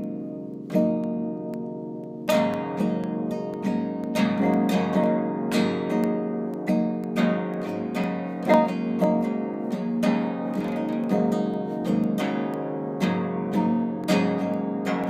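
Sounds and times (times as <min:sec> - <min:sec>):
jazz on plucked string instrument: 0:00.0 - 0:15.0.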